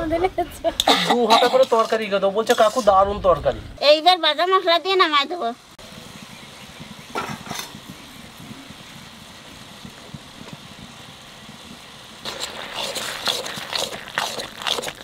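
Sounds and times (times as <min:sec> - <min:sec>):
low steady hiss: 0:00.0 - 0:14.6.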